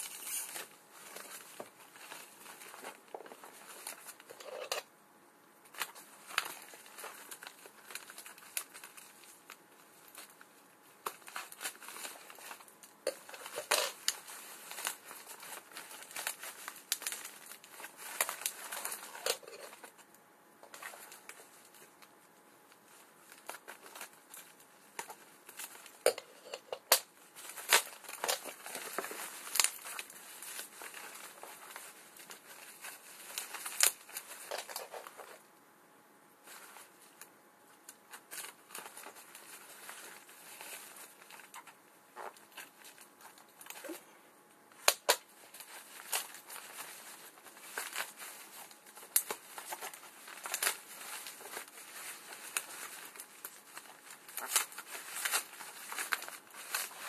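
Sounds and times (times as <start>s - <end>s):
plastic packaging crinkling: 0.0s - 5.0s, 5.6s - 35.6s, 36.4s - 44.1s, 44.7s - 57.0s.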